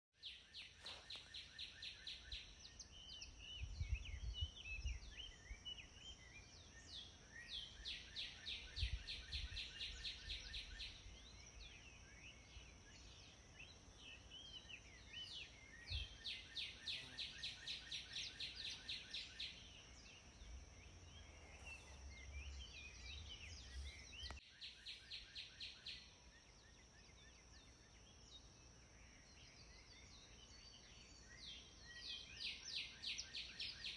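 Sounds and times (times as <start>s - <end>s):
bird chirps: 0.2s - 33.9s.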